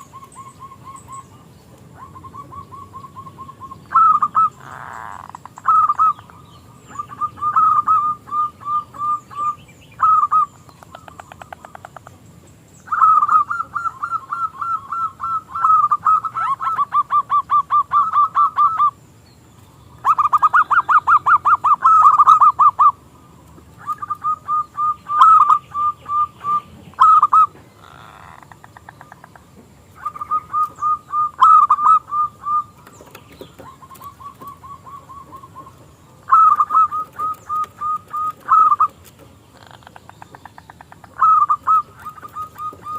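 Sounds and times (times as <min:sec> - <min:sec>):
dove cooing: 0:00.0 - 0:12.2, 0:12.9 - 0:19.0, 0:20.0 - 0:23.1, 0:23.8 - 0:42.9.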